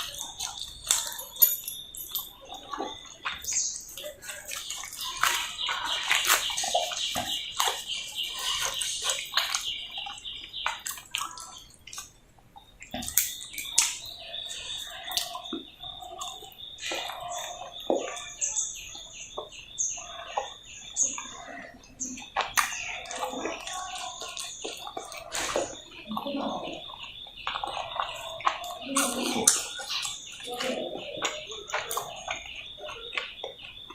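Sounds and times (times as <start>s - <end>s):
chewing and mouth smacks: 0.0s - 33.9s.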